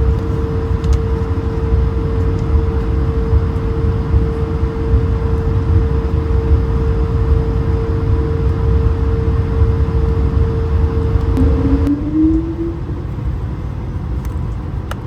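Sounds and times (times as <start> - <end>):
airliner cabin engine rumble: 0.0 - 15.0
steady cabin hum: 0.0 - 15.0.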